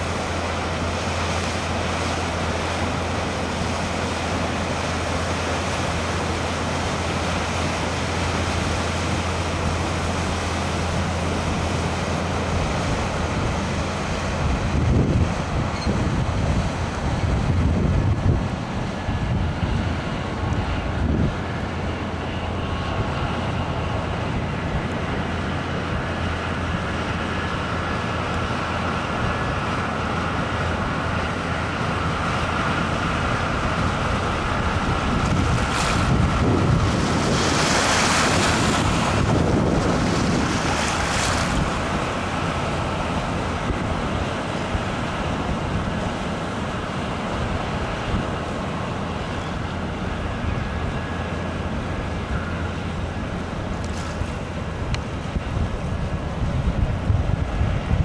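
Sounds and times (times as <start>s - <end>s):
moving water: 0.0s - 58.0s
rush of ship wash: 0.0s - 58.0s
ship diesel engine drone: 0.0s - 58.0s
wind noise on microphone: 10.6s - 58.0s.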